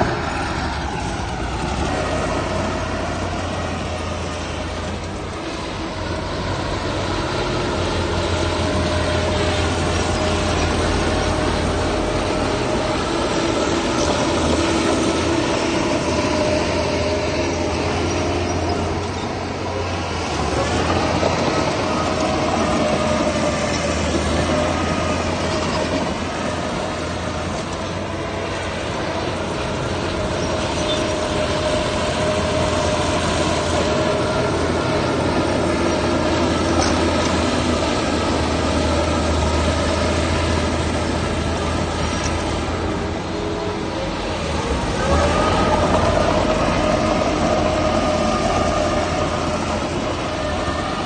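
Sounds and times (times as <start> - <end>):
bulldozer diesel engine under load: 0.0 - 51.0
steel tracks clanking and squealing: 0.0 - 51.0.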